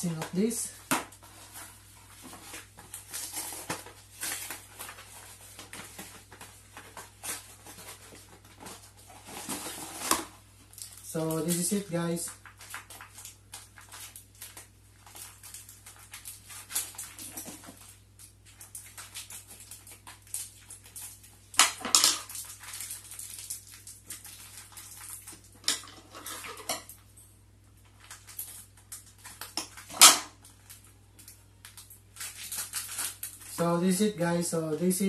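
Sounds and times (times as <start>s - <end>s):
plastic bag crinkling: 0.0s - 35.0s.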